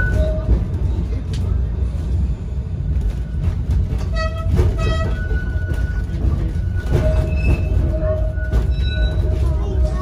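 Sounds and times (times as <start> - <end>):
tram motors and wheels rumbling: 0.0 - 10.0.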